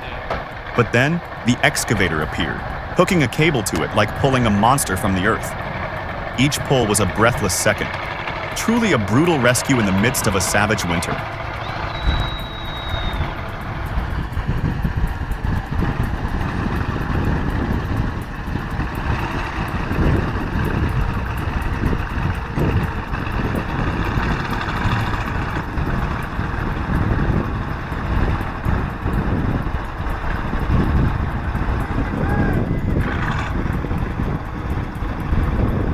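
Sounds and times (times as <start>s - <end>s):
heavy diesel engines running: 0.0s - 35.9s.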